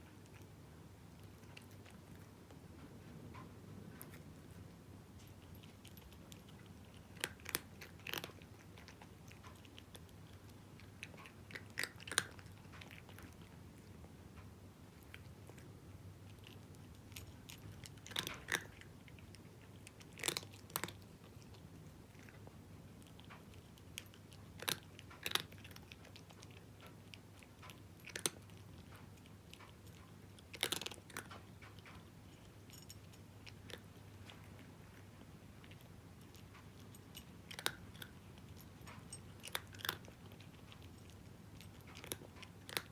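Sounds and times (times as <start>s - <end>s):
cat crunching dry kibble: 0.0s - 42.9s.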